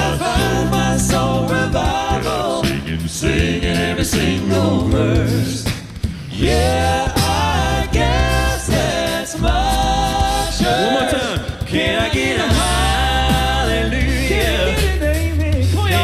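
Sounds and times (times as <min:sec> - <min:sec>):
deep bass voice singing: 0:00.0 - 0:05.7, 0:06.3 - 0:16.0
a cappella group singing in harmony: 0:00.0 - 0:16.0.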